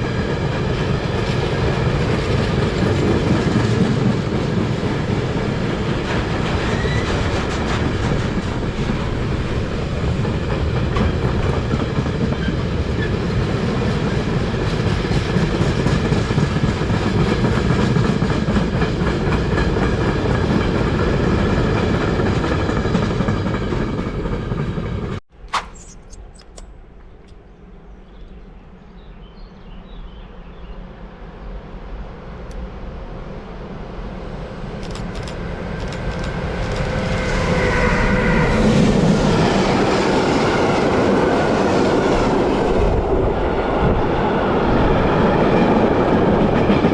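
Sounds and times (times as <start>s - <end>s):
train wheels rumbling on rails: 0.0s - 25.2s, 31.7s - 46.9s.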